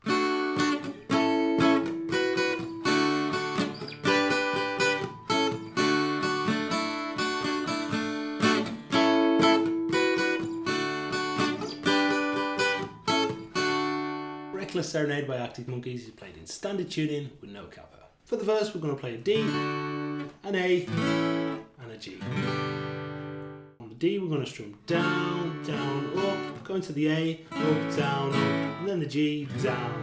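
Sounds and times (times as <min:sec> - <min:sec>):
acoustic guitar strumming: 0:00.0 - 0:14.8, 0:19.3 - 0:23.8, 0:24.6 - 0:30.0.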